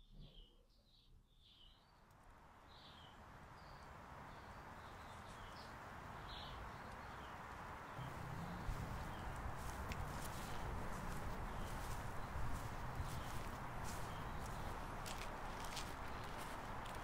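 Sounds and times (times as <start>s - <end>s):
outdoor ambience hiss: 0.1s - 17.0s
small birds chirping: 0.1s - 17.0s.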